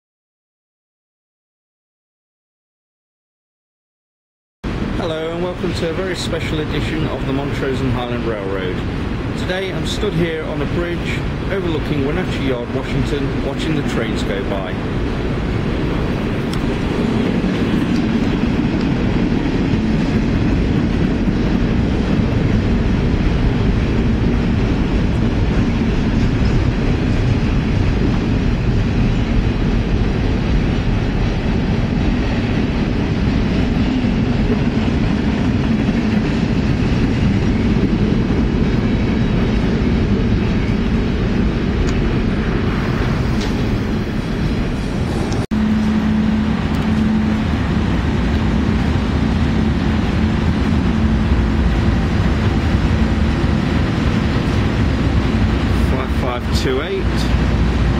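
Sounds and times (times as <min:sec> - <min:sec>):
train passing rumble: 0:04.6 - 0:57.9.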